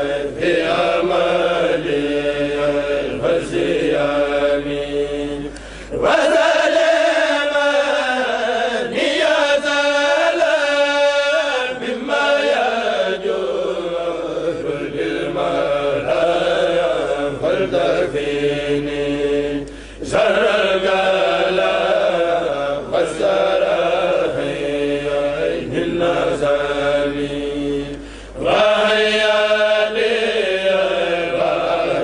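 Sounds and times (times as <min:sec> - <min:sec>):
men chanting together: 0:00.0 - 0:32.0.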